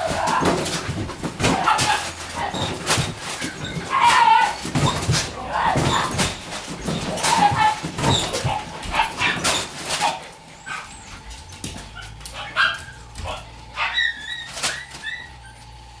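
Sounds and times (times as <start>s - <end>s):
puppy whimpering and yipping: 1.6s - 15.7s.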